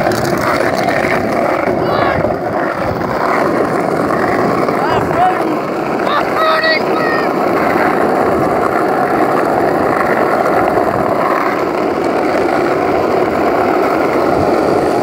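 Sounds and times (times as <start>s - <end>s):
wheels rolling over rough asphalt: 0.0s - 15.0s.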